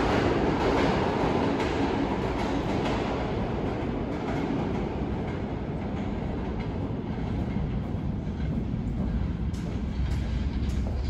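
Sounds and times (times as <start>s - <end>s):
subway train rumble: 0.0s - 11.0s.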